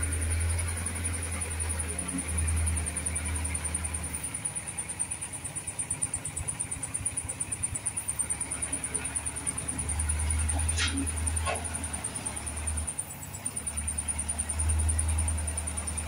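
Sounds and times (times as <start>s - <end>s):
diesel loader engine running: 0.0s - 16.0s.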